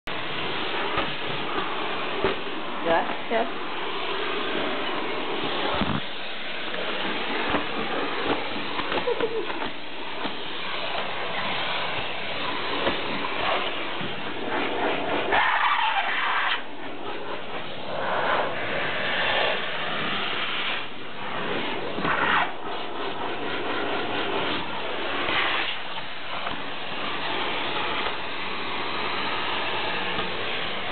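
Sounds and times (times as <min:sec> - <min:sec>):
vacuum cleaner running: 0:00.1 - 0:30.9.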